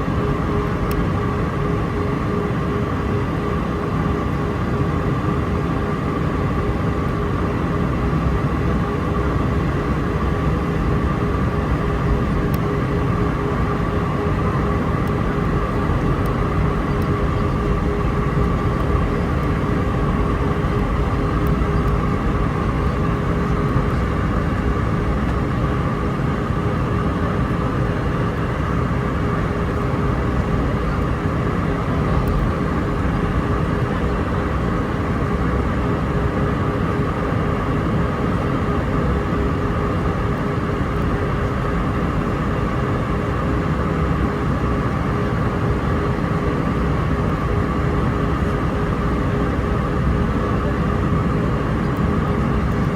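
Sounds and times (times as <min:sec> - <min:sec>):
airliner cabin rumble: 0:00.0 - 0:52.9
steady whine: 0:00.0 - 0:52.9.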